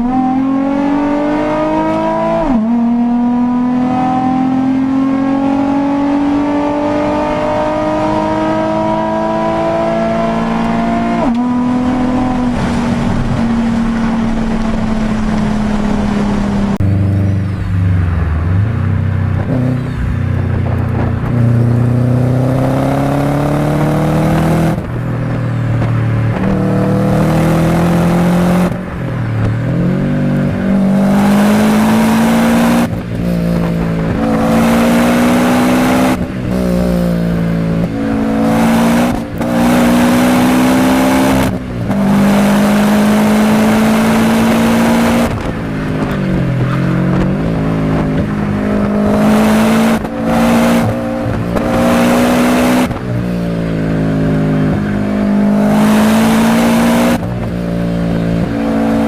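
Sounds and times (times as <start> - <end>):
car exhaust under hard acceleration: 0.0 - 59.0.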